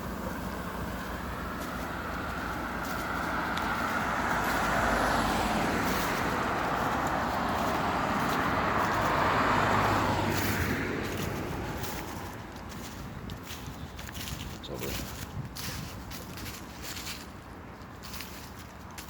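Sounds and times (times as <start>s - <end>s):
car tyre and engine noise: 0.0s - 19.0s.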